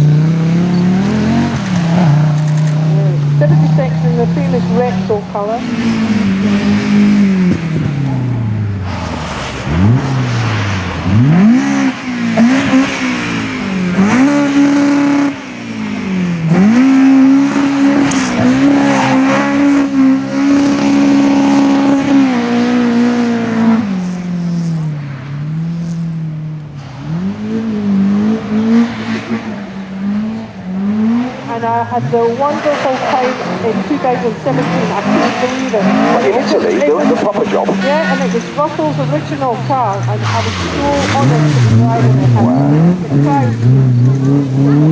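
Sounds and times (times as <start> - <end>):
rally car engine revving: 0.0 - 44.9.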